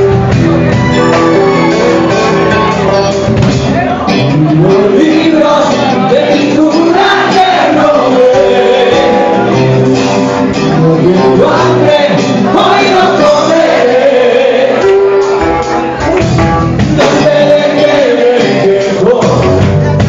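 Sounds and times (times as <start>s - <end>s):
person singing: 0.0s - 16.2s, 16.8s - 20.0s
rock band playing live: 0.0s - 20.0s.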